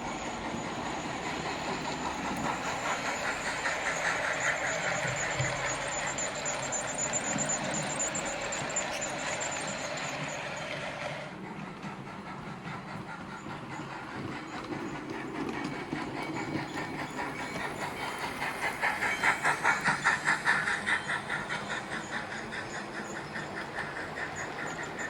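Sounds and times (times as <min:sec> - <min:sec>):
model train rhythmic pulsing: 0:00.0 - 0:25.0.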